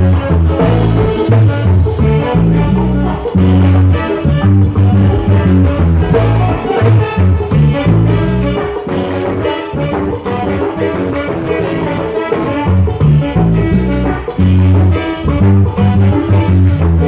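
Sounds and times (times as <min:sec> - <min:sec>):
electric bass line: 0:00.0 - 0:17.0
reggae band with horns playing: 0:00.0 - 0:17.0
saxophone: 0:00.0 - 0:17.0.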